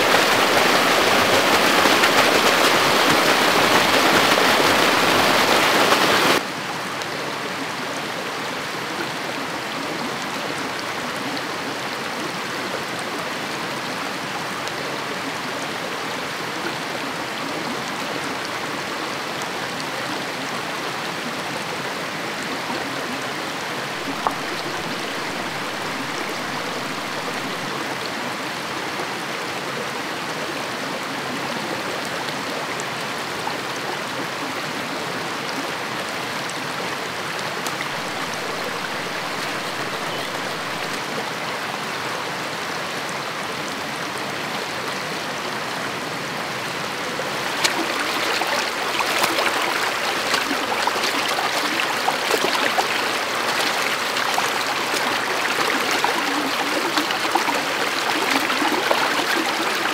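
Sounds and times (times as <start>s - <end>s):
running water: 0.0s - 29.5s, 35.5s - 42.3s, 44.2s - 59.9s.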